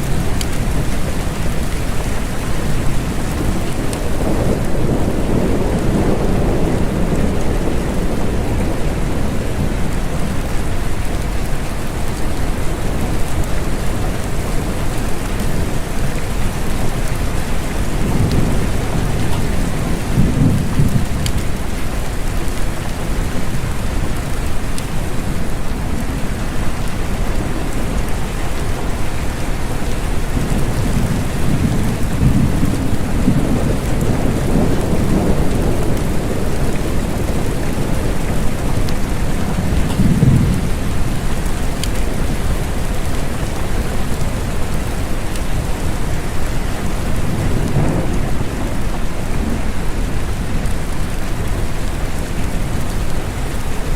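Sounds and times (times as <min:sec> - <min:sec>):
low thunder rumbles: 0:00.0 - 0:53.9
steady rain: 0:00.0 - 0:53.9.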